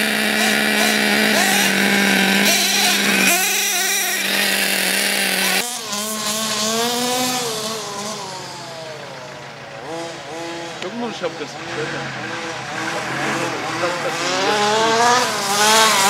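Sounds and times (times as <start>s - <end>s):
engine drone with hiss: 0.0s - 16.0s
engine revving: 0.0s - 16.0s.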